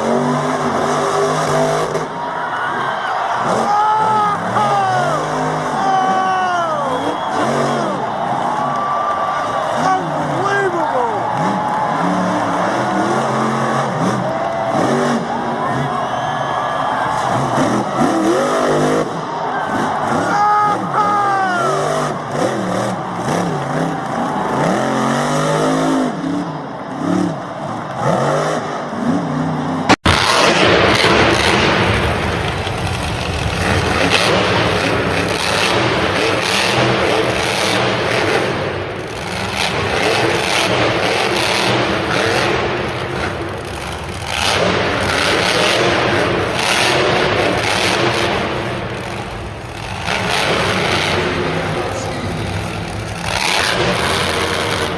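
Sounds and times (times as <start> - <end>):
monster truck engines revving: 0.0 - 54.9.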